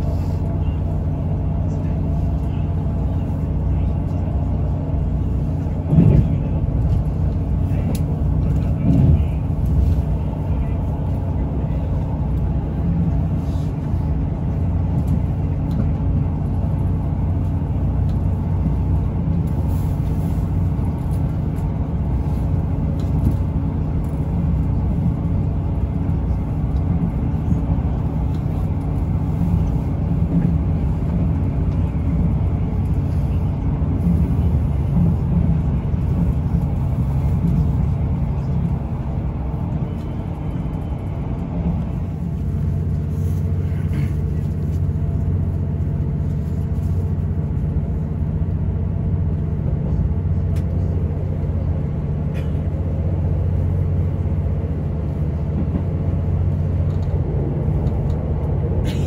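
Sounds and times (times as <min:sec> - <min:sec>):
train running noise inside carriage: 0:00.0 - 0:59.0.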